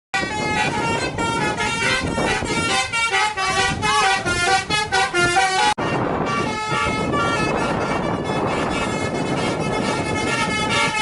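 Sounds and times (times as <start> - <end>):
musical bus air horn melody: 0.2 - 11.0
street noise: 0.2 - 11.0.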